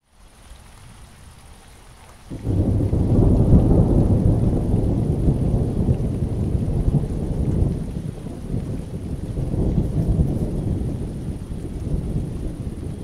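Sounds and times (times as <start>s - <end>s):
steady rain falling: 0.0s - 13.0s
thunder rumbling: 2.3s - 13.0s.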